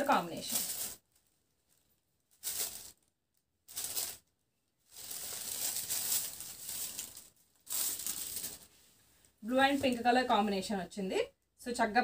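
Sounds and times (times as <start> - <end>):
fabric rustling: 0.0 - 10.0.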